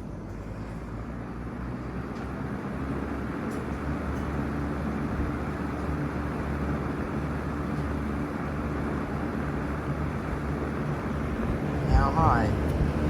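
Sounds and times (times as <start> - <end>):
box fan running: 1.4 - 13.0.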